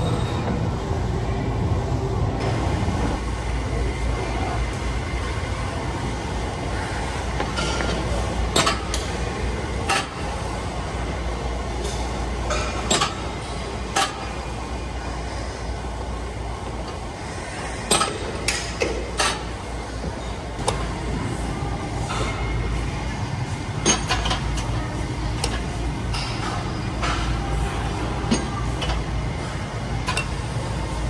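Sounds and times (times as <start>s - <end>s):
gym hum: 0.0s - 31.0s.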